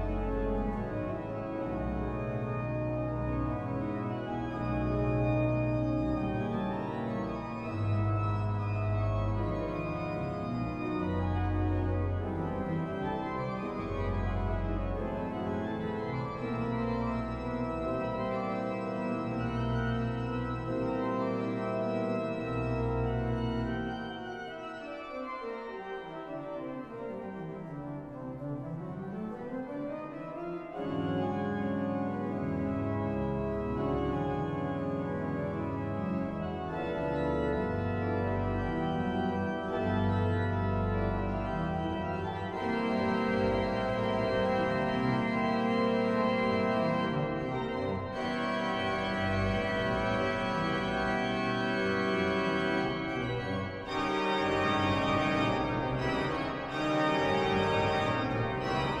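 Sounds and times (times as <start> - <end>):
deep organ pedal bass: 0.0 - 24.4, 30.7 - 59.0
pipe organ chords: 0.0 - 59.0.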